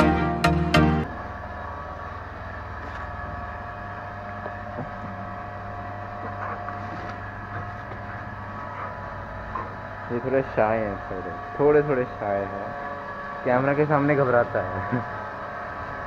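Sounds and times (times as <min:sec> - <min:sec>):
steady tones: 0:00.0 - 0:16.0
low droning hum: 0:01.0 - 0:16.0.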